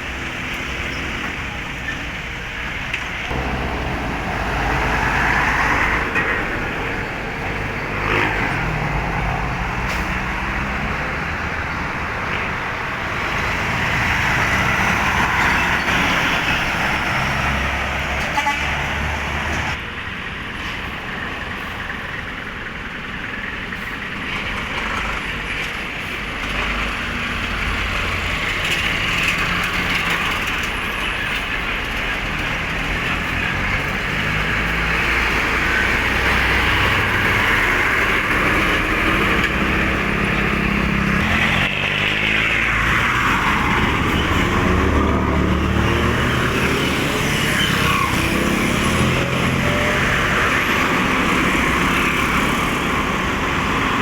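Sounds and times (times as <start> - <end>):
road traffic passing: 0.0 - 54.0
truck engine rumble: 0.0 - 54.0.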